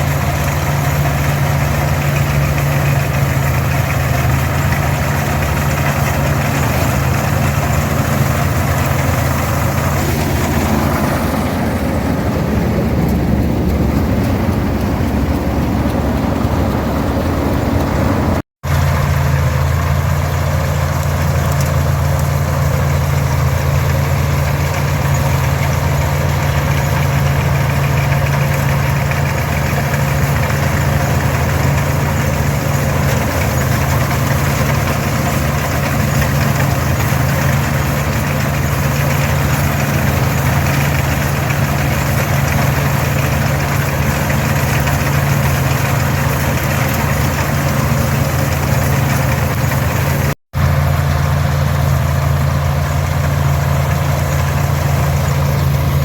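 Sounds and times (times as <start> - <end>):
combine harvester machinery: 0.0 - 56.0
diesel tractor engine running: 0.0 - 56.0.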